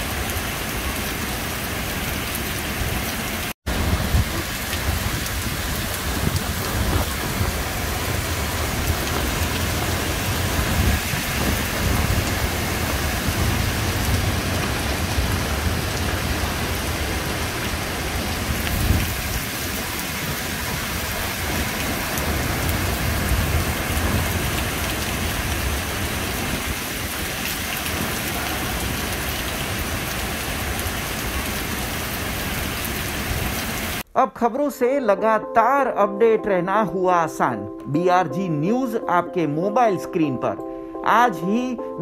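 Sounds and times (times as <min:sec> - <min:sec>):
heavy rain pouring: 0:00.0 - 0:34.1.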